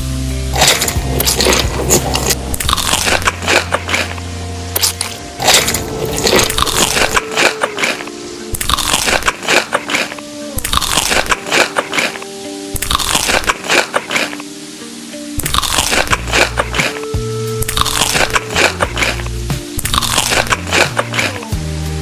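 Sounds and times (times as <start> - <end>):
background music: 0.0 - 22.0
crunchy food chewing: 0.5 - 4.2, 4.8 - 14.5, 15.4 - 21.5.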